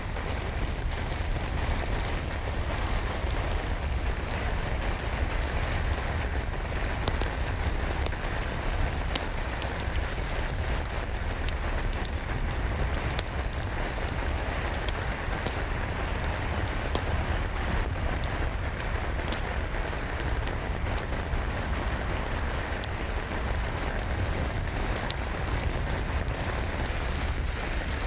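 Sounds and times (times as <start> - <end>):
steady rain: 0.0 - 28.0
wood fire crackling: 0.0 - 28.0.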